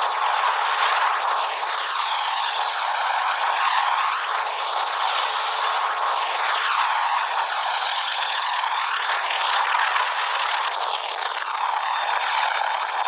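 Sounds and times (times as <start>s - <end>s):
helicopter in flight: 0.0s - 13.0s.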